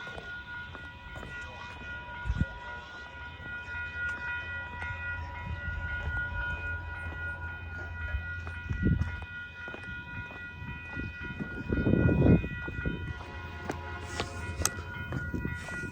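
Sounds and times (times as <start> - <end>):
level crossing bells ringing: 0.0 - 15.9
train rumble: 0.0 - 15.9.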